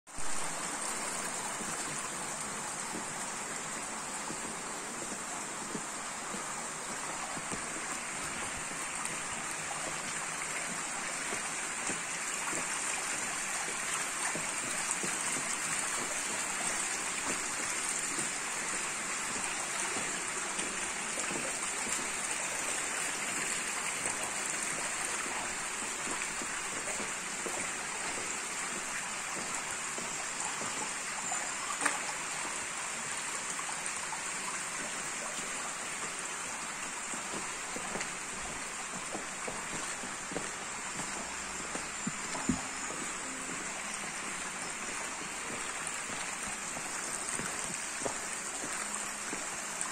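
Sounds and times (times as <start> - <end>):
water rushing down stone gutter: 0.1 - 49.9.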